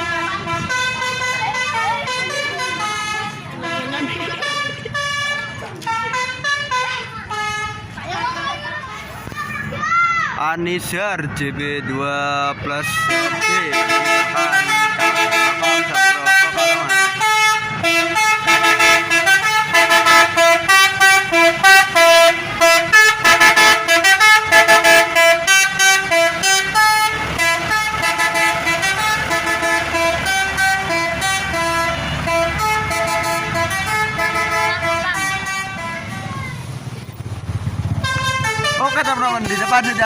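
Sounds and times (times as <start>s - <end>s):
multi-note bus horn melody: 0.0s - 8.0s, 12.7s - 36.5s, 37.9s - 40.0s.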